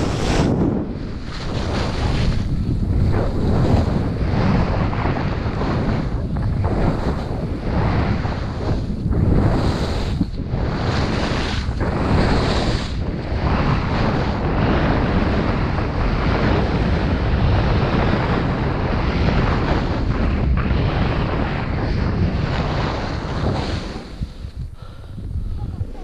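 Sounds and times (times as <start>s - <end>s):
skis sliding over snow: 0.0s - 24.5s
wind buffeting microphone: 0.0s - 26.0s.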